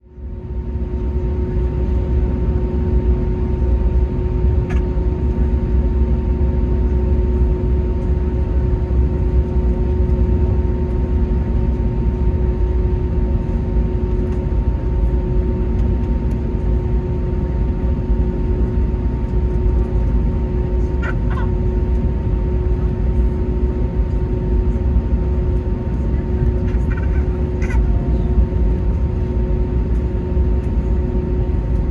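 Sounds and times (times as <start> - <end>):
jet engine rumble: 0.0 - 31.9.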